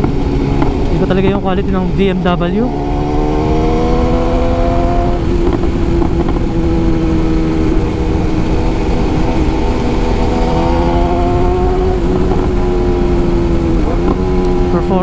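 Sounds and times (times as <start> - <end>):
motorcycle engine revving: 0.0 - 15.0
wind noise on microphone: 0.0 - 15.0.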